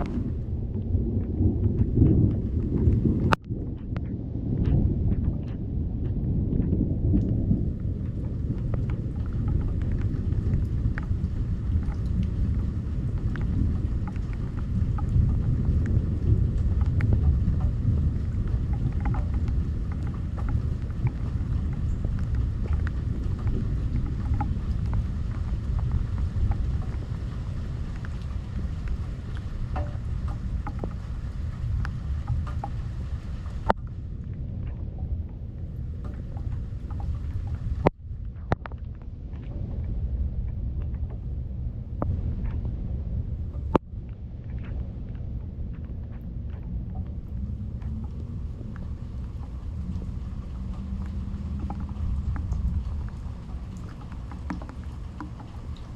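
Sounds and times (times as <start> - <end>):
rain falling: 0.0 - 55.9
raindrops ticking: 0.0 - 55.9
thunder rumbling: 0.0 - 55.9.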